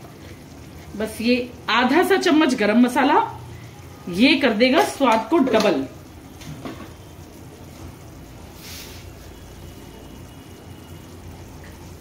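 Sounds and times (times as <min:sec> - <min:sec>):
gravy bubbling: 0:00.0 - 0:12.0.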